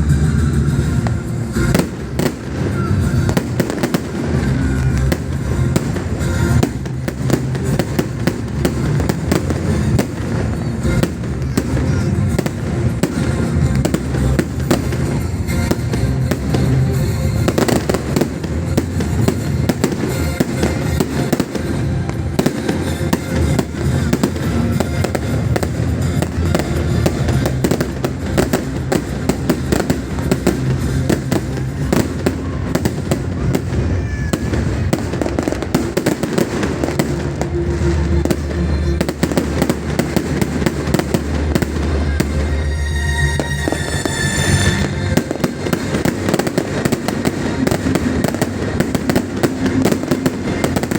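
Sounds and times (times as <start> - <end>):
firework whistling: 0.0 - 50.9
fireworks crackling and popping: 0.0 - 50.9.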